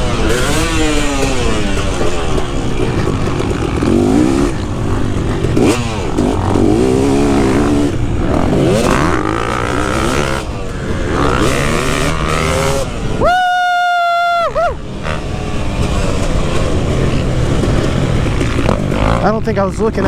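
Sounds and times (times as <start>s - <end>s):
motocross engine revving: 0.0s - 20.0s.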